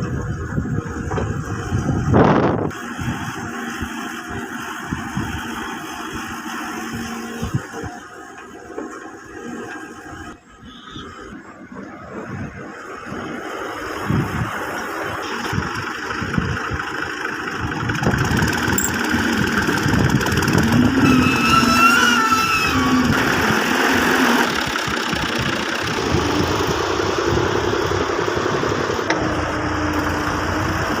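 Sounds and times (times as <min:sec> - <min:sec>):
heavy engine running under load: 0:00.0 - 0:31.0.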